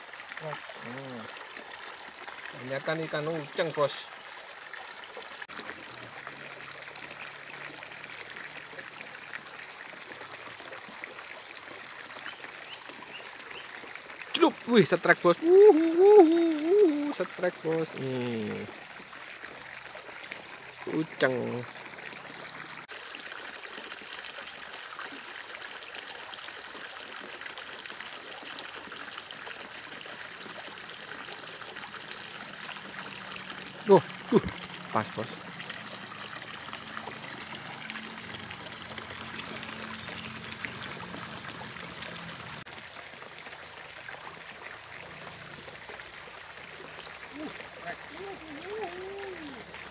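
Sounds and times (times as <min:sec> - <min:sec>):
stream running over rocks: 0:00.0 - 0:49.9.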